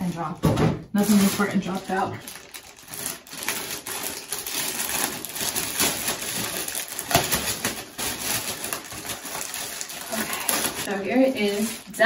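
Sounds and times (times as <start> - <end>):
plastic bag crinkling: 1.0 - 12.0.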